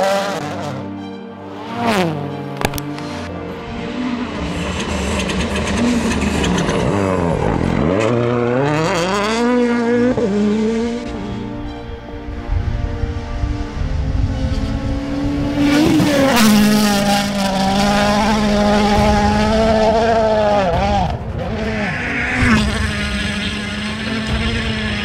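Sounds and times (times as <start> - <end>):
rally car engines revving: 0.0 - 11.6, 12.4 - 25.0.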